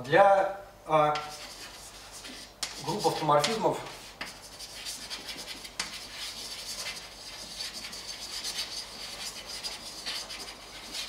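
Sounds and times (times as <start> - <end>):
chalk tap: 1.1 - 11.0
chalk scratching on blackboard: 1.2 - 11.0.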